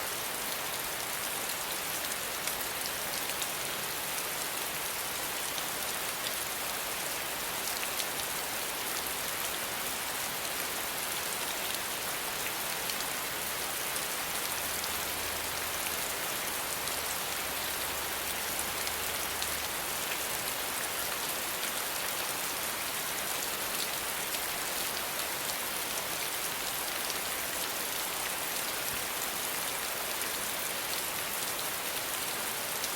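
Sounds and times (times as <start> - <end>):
steady rainfall: 0.0 - 32.9.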